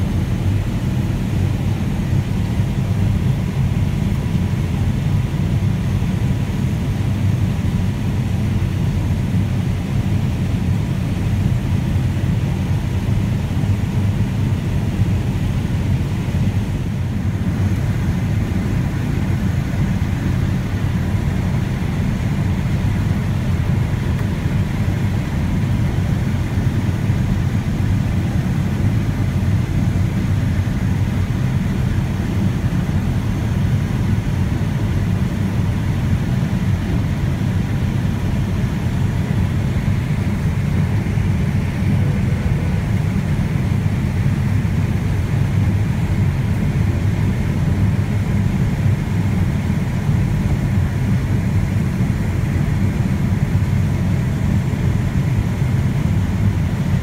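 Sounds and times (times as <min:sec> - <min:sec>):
combine harvester low rumble: 0:00.0 - 0:57.0.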